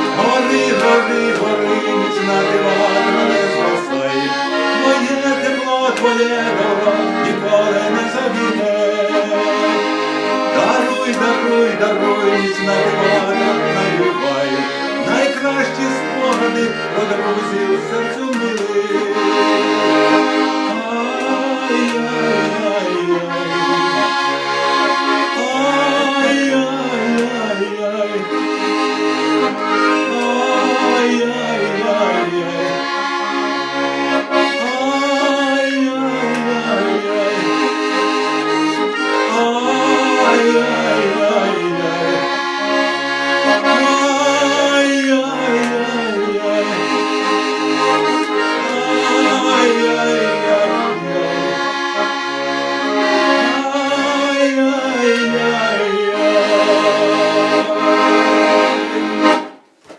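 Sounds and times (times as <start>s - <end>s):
accordion melody with bass: 0.0s - 59.8s.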